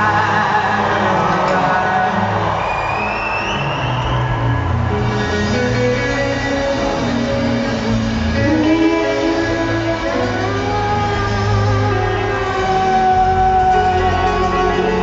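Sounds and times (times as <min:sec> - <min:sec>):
live band music through pa: 0:00.0 - 0:15.0.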